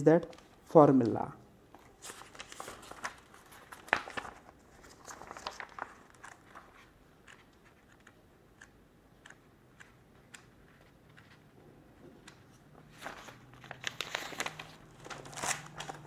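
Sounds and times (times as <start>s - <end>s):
paper pages rustling: 1.7s - 16.0s.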